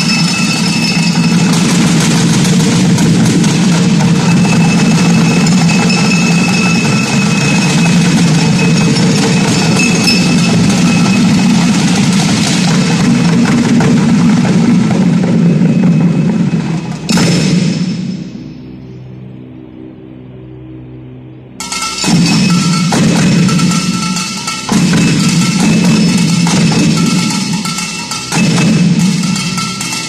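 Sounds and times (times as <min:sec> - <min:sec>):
drums playing fast roll: 0:00.0 - 0:18.4, 0:21.6 - 0:30.0
sharp drum hit: 0:00.0 - 0:18.5, 0:21.6 - 0:30.0.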